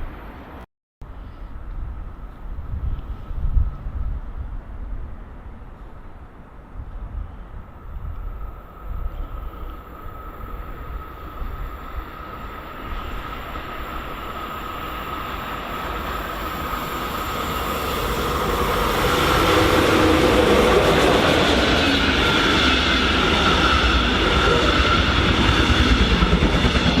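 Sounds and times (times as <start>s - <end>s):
train passing: 4.2s - 27.0s.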